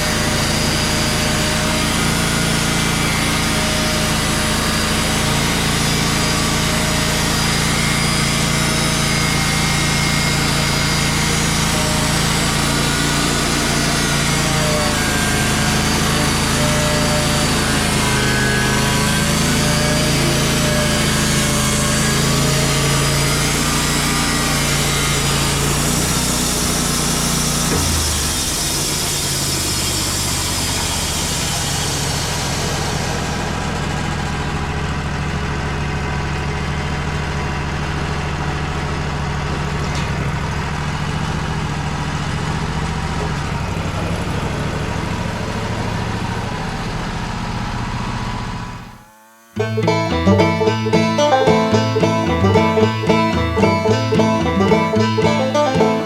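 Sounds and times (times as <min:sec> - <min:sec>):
sawmill engine running: 0:00.0 - 0:47.5, 0:49.6 - 0:56.0.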